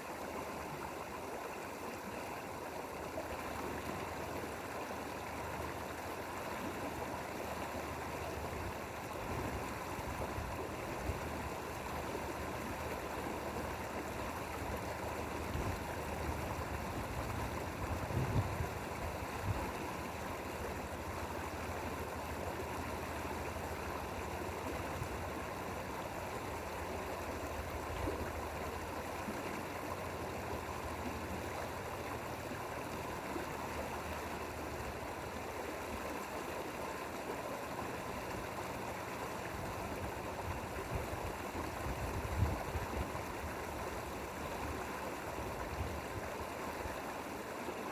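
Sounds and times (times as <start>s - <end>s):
stream flowing over rocks: 0.0s - 47.9s.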